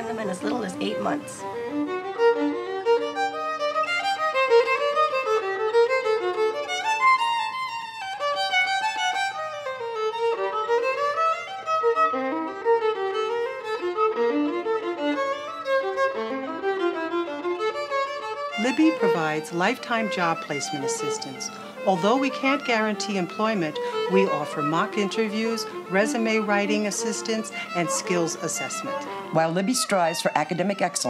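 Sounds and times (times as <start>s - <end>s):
instrumental music with quick melody: 0.0s - 31.0s.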